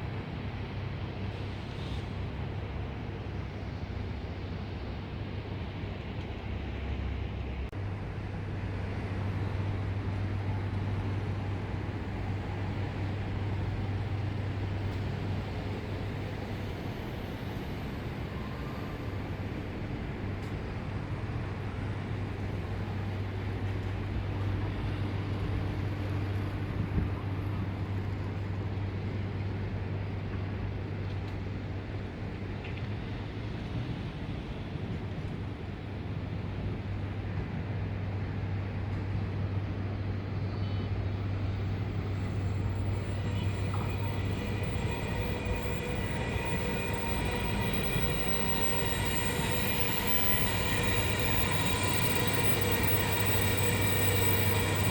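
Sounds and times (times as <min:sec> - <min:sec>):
train low hum: 0:00.0 - 0:54.9.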